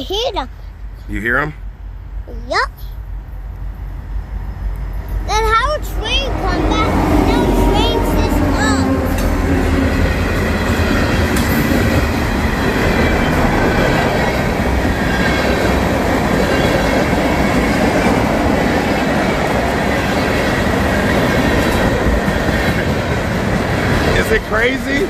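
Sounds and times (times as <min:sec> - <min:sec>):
train wheels rumbling on rails: 0:02.8 - 0:25.0.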